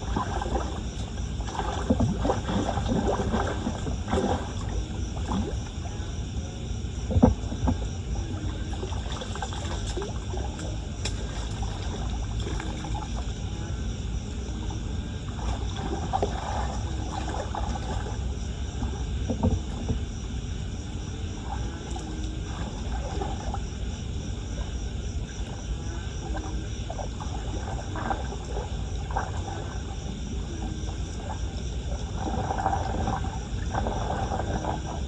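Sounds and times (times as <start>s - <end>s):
floodwater sloshing and splashing: 0.0s - 35.0s.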